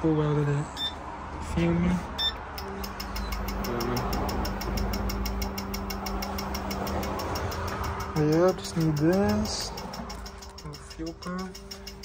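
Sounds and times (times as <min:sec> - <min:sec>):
quick even ticking: 0:02.2 - 0:12.0.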